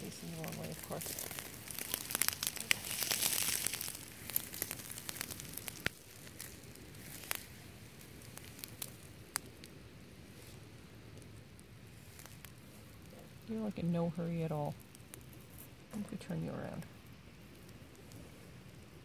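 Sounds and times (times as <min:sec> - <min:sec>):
rustling and crackling from handling: 0:00.0 - 0:19.0.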